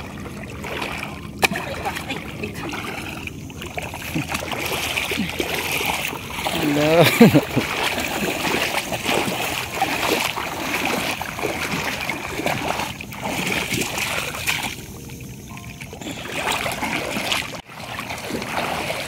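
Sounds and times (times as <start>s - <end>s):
feet splashing through seawater: 0.0s - 19.0s.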